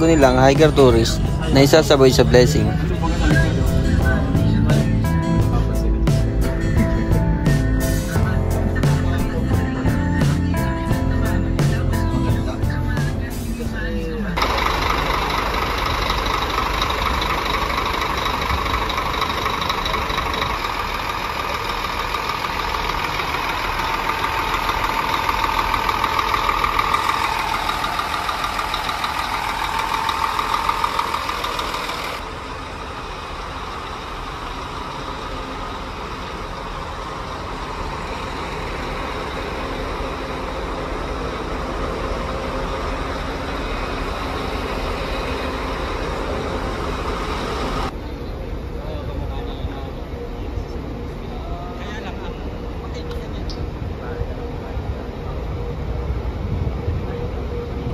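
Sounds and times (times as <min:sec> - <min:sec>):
diesel bus engines idling: 0:00.0 - 0:57.9.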